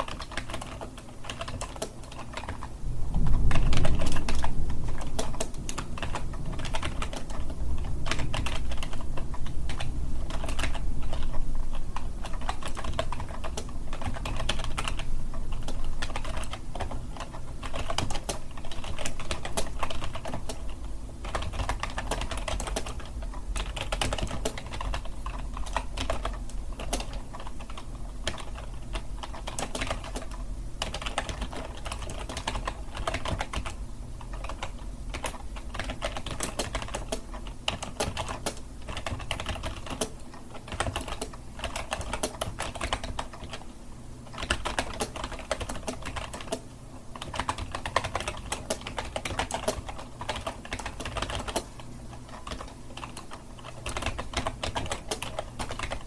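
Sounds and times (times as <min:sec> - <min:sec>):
keyboard typing: 0:00.0 - 0:56.0.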